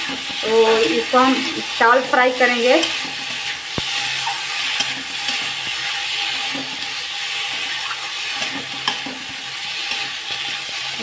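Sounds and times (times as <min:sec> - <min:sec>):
food sizzling in oil: 0:00.0 - 0:11.0
spatula stirring in a pan: 0:00.0 - 0:11.0.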